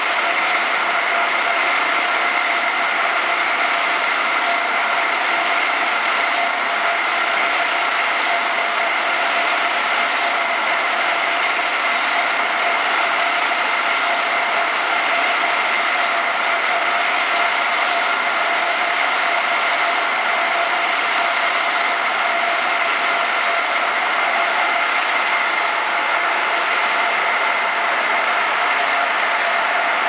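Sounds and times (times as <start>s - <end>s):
high whine: 0.0s - 30.0s.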